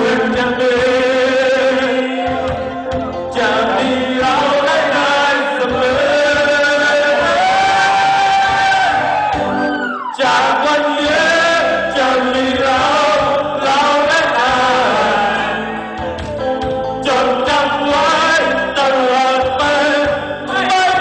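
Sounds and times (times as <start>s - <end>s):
backing music: 0.0s - 21.0s
group of voices singing: 0.0s - 21.0s.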